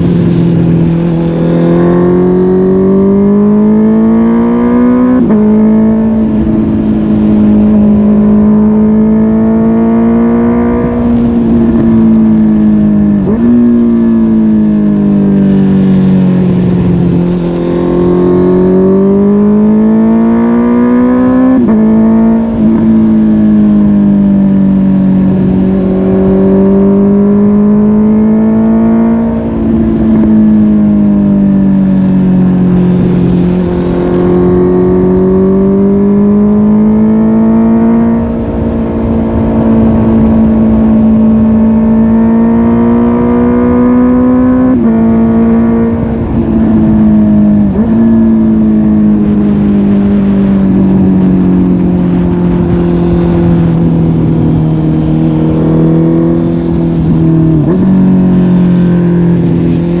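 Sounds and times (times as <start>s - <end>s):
motorcycle engine revving: 0.0s - 60.0s
road and wind noise: 0.0s - 60.0s.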